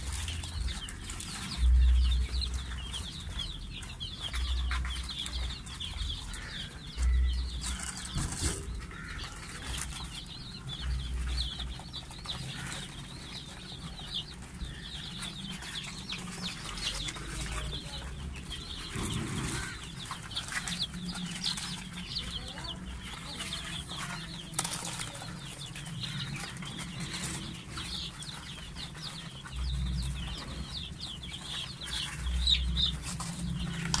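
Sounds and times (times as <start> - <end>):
chicks cheeping: 0.0 - 34.0
low rumbles: 0.0 - 34.0.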